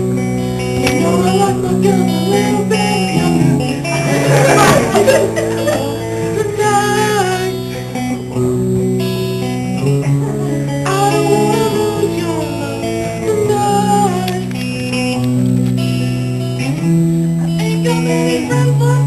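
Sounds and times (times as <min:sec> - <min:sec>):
guitar music with sliding melody: 0:00.0 - 0:19.0.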